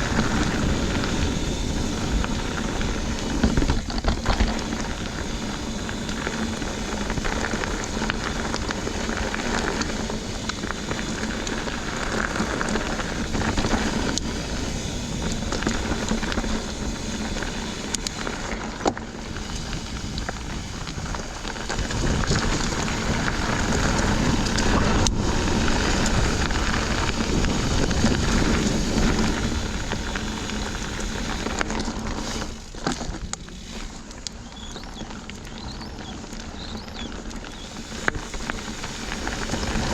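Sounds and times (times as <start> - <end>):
bike tyres and wind rushing: 0.0 - 39.9.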